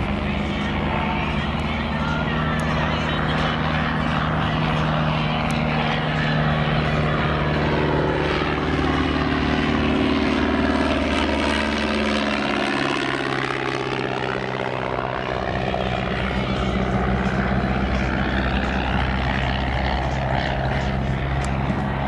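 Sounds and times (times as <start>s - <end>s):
biplane engine in flight: 0.0s - 22.0s.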